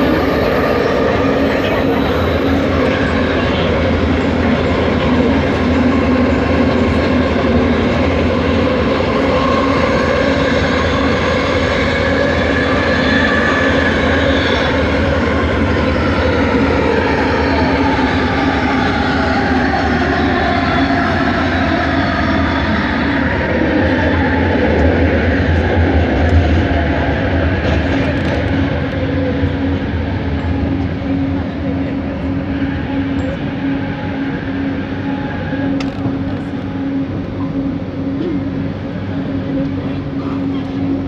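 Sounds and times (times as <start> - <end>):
train wheels rumbling: 0.0 - 41.0.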